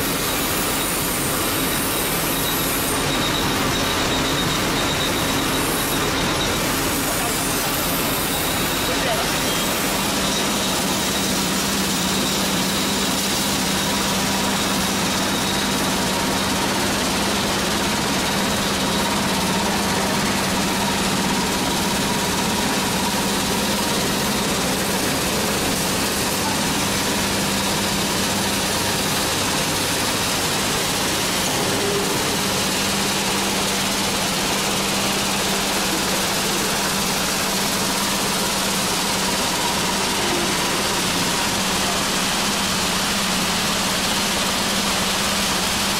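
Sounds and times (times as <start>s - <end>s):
machine motor hum: 0.0s - 45.9s.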